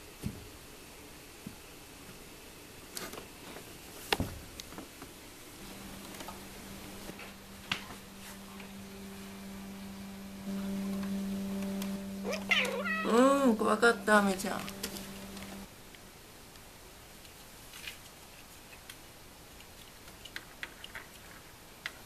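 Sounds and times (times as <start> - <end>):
air conditioner humming: 0.0 - 20.3.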